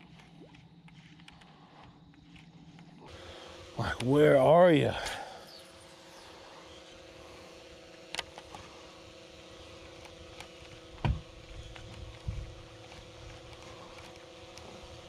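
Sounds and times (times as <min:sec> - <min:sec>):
small motor humming: 0:00.0 - 0:15.0.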